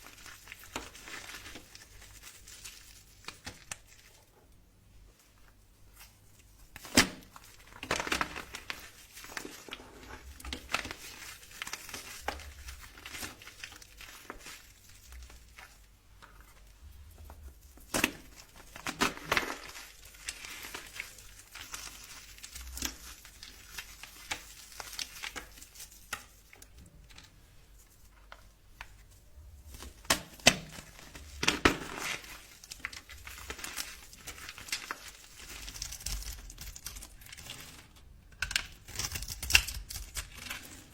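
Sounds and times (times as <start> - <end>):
dry soap crunching: 0.0 - 4.4, 5.5 - 40.9.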